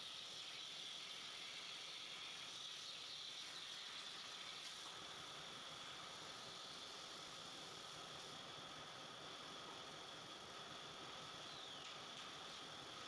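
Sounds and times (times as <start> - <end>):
plasma cutter torch hissing: 0.0 - 11.8.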